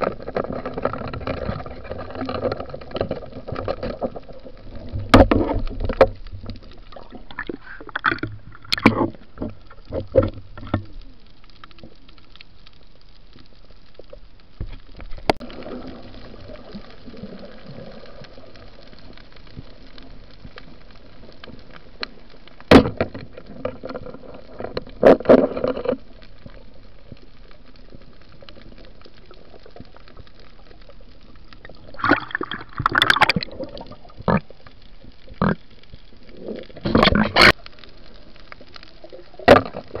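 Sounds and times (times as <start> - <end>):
muffled underwater hiss: 0.0 - 40.0
water bubbling and gurgling: 0.0 - 40.0.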